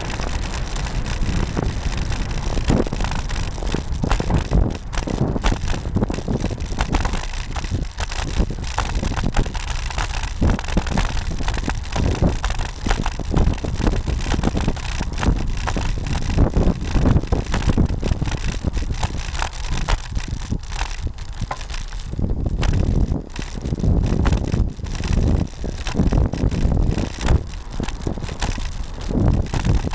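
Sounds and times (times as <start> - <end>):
low rumble: 0.0 - 29.9
wind buffeting microphone: 0.0 - 29.9.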